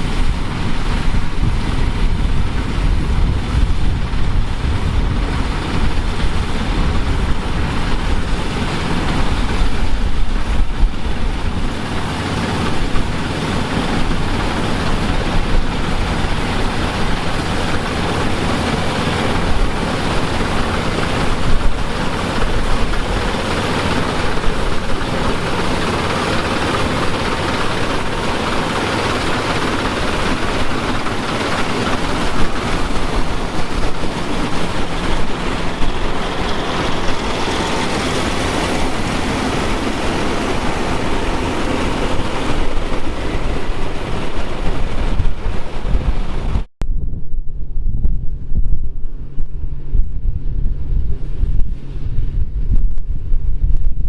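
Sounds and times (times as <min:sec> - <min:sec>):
farm machinery engine rumbling: 0:00.0 - 0:46.7.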